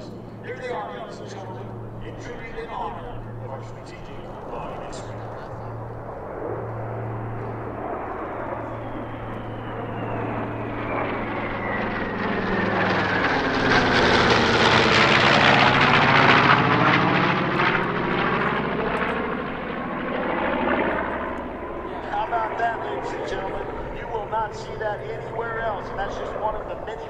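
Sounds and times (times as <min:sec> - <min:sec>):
bomber engines flyby: 0:00.0 - 0:27.0
falling engine whine: 0:00.0 - 0:27.0.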